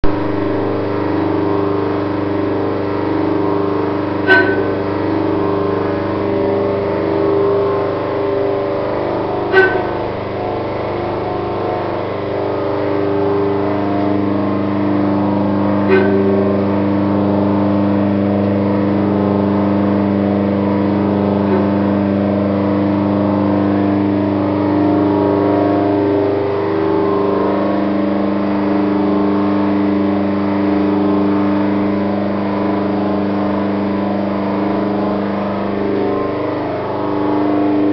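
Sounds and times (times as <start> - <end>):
machine motor humming: 0.0 - 37.9.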